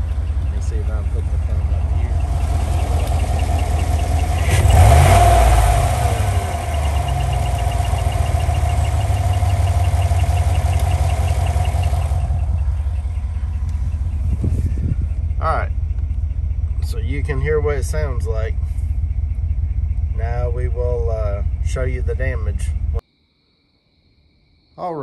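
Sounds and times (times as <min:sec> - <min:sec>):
fast ticking and squeak: 0:00.0 - 0:23.0
truck engine idling and revving: 0:00.0 - 0:23.0.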